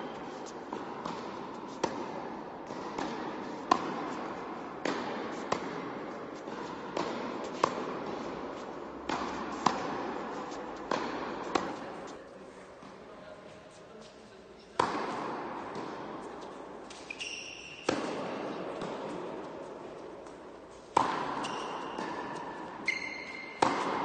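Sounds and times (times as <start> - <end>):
racket striking tennis ball: 0.0 - 12.2, 14.8 - 24.0
tennis ball bouncing: 0.0 - 12.2, 14.8 - 24.0.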